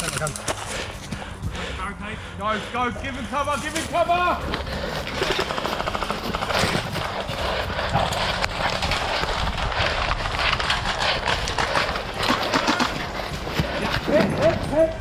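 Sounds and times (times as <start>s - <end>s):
kit rattling: 0.0s - 15.0s
running footsteps on ground: 0.0s - 15.0s.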